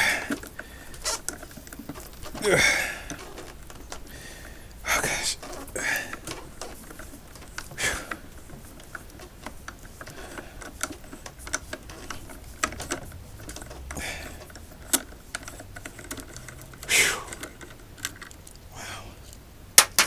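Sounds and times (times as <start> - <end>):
heavy breaths: 0.0 - 17.8, 18.6 - 19.4
plastic and metal parts clicking: 0.0 - 20.0.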